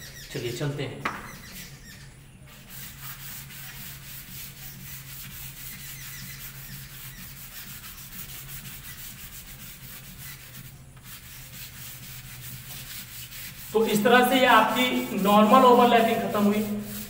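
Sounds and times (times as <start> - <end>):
duster rubbing on blackboard: 1.1 - 17.0.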